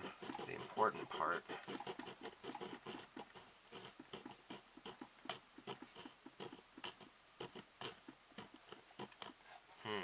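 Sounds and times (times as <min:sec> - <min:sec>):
hand saw rasping through vinyl: 0:00.0 - 0:09.5.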